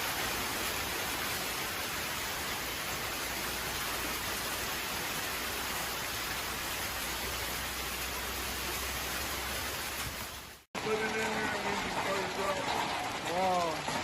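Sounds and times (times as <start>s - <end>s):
heavy rain downpour: 0.0s - 14.0s.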